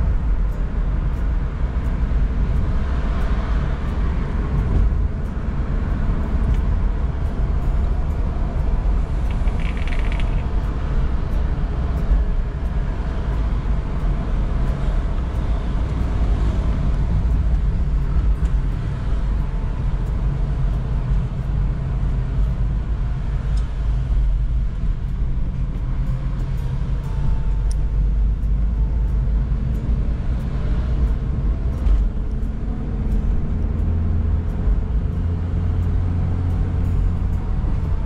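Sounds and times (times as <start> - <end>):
road and engine rumble: 0.0 - 38.0.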